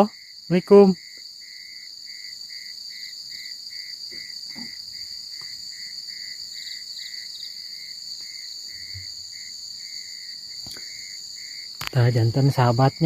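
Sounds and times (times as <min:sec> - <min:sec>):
crickets buzzing: 0:00.0 - 0:13.0
low insect chirp: 0:00.0 - 0:13.0.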